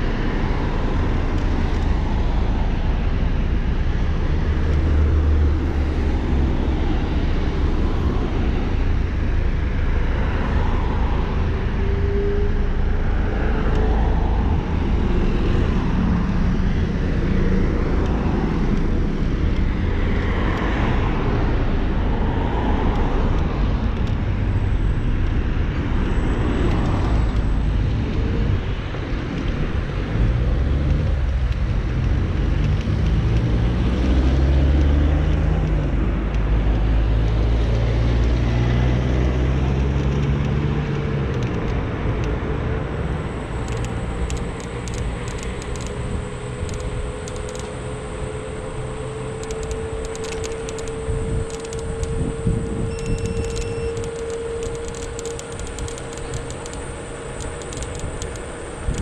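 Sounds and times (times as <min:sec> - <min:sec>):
cars passing: 0:00.0 - 0:59.0
wind and road rumble: 0:00.0 - 0:59.0.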